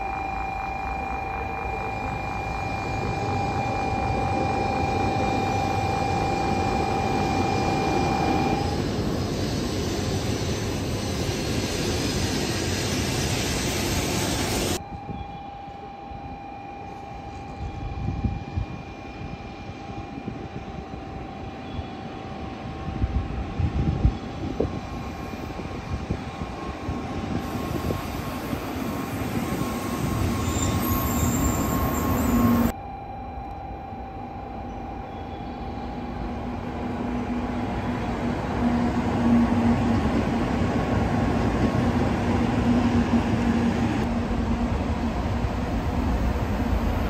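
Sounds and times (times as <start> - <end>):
high-speed trains rushing past: 1.3 - 14.8, 18.5 - 32.7, 35.4 - 47.0.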